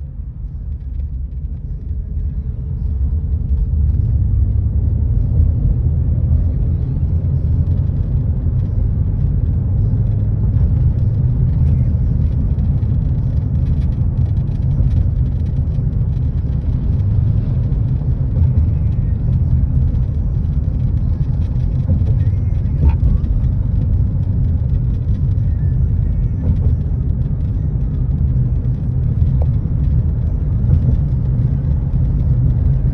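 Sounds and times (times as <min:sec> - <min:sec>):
car road and tyre rumble: 0:00.0 - 0:32.9.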